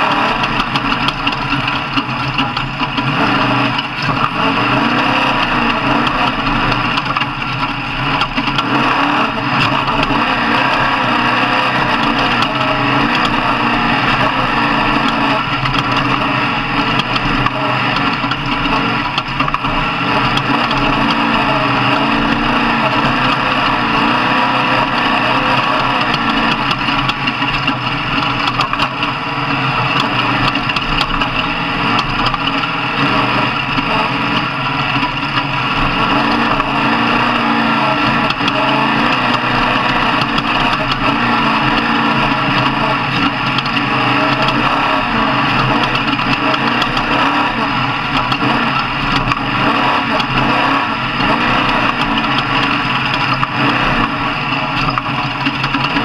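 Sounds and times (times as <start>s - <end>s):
truck engine running loudly: 0.0s - 56.0s.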